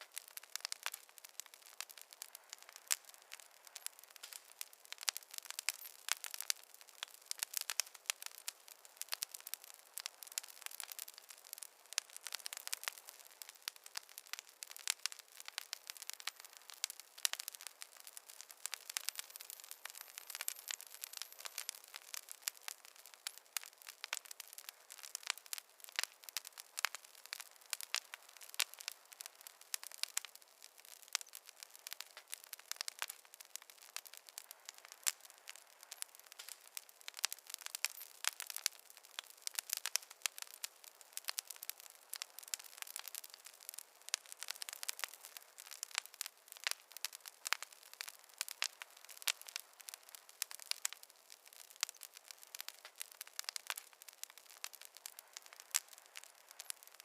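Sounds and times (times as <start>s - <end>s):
fire crackling: 0.0s - 57.0s
soft hiss: 0.0s - 57.0s.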